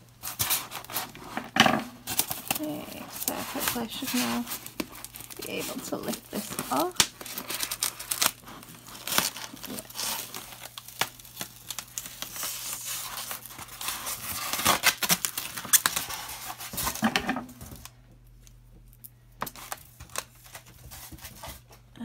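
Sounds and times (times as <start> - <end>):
plastic wrapping crinkling: 0.2 - 21.8.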